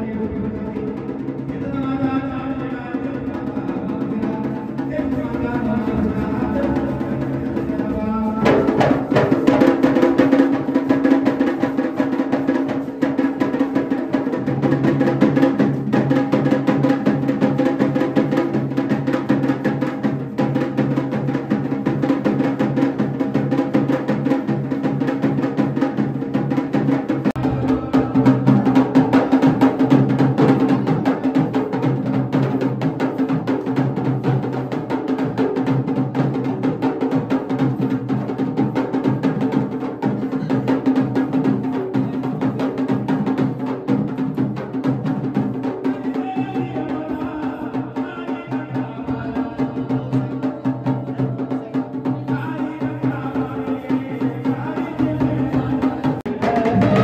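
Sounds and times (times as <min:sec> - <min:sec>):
loud fast drumming: 0:00.0 - 0:57.0.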